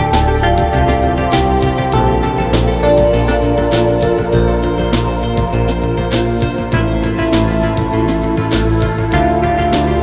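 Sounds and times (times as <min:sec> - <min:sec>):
plucked guitar music with beat: 0:00.0 - 0:10.0.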